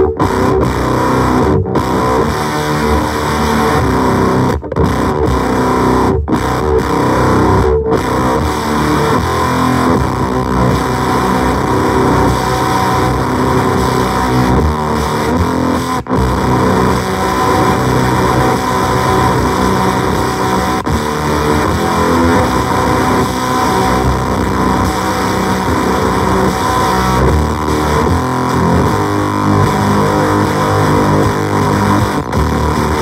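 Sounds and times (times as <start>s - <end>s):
distorted fuzz electric guitar: 0.0s - 33.0s.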